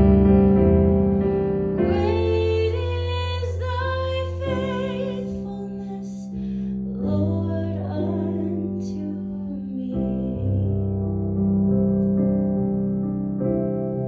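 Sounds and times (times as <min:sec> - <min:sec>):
sustained keyboard chords: 0:00.0 - 0:14.0.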